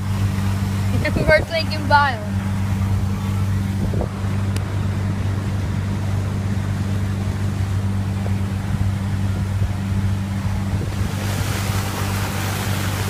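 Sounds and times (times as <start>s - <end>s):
boat motor droning: 0.0s - 13.0s
wind and water rushing: 0.0s - 13.0s.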